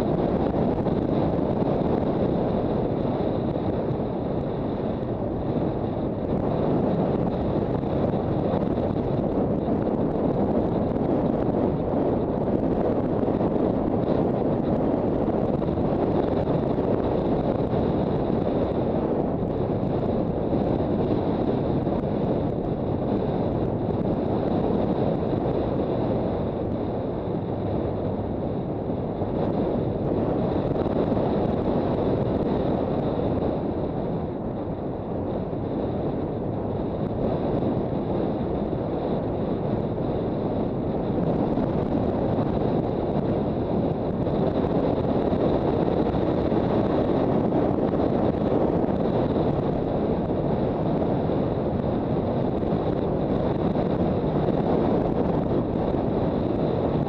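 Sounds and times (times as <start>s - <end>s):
wind rush over microphone: 0.0s - 57.0s.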